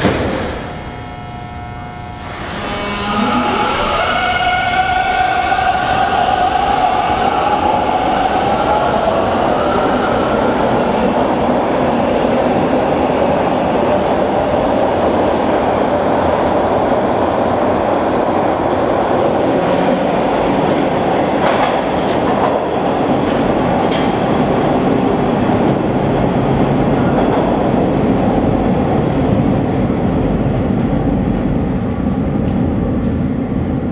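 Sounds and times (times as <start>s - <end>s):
subway train rumbling: 0.0s - 33.9s.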